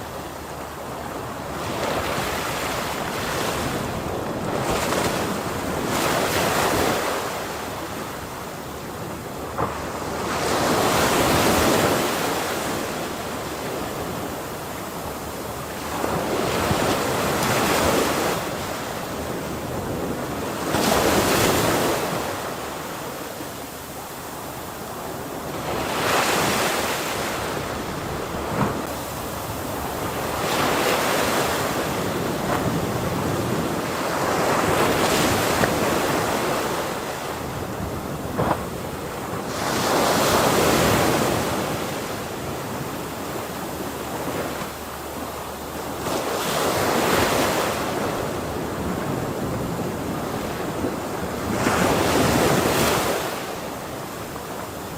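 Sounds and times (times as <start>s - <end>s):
ocean waves breaking on shore: 0.0s - 54.9s
wind noise: 0.0s - 54.9s.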